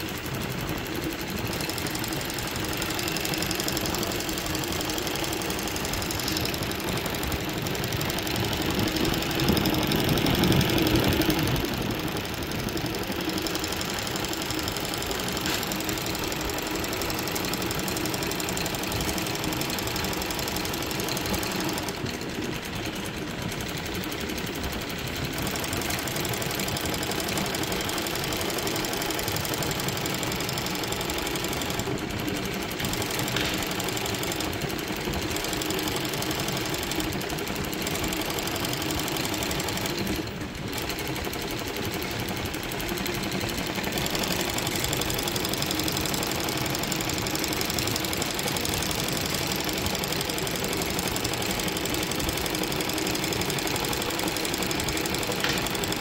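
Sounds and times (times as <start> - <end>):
embroidery machine rattling: 0.0 - 56.0.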